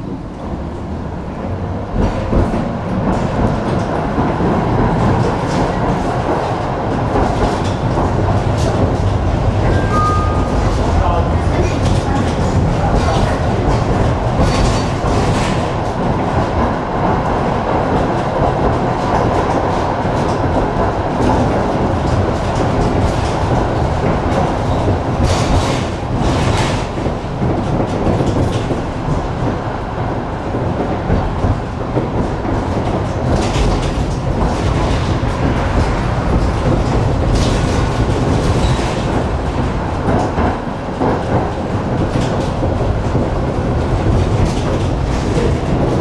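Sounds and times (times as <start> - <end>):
tram wheels rumbling on rail: 0.0 - 46.0.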